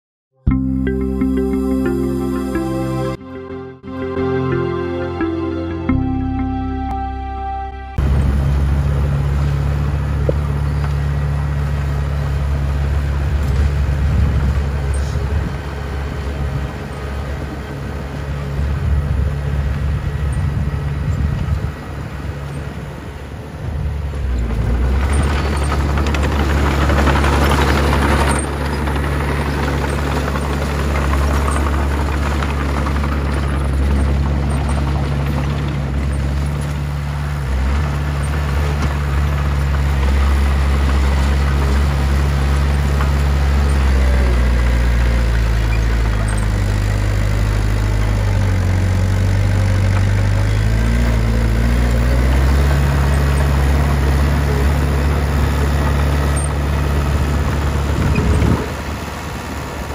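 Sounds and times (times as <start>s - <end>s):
bulldozer diesel engine running: 0.5s - 59.9s.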